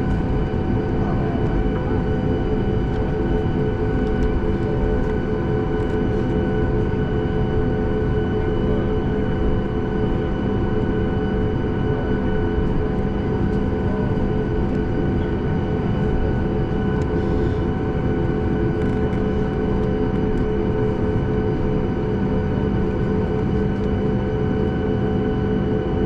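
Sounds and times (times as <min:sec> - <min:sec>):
airplane cabin engine rush: 0:00.0 - 0:26.0
steady humming tones: 0:00.0 - 0:26.0.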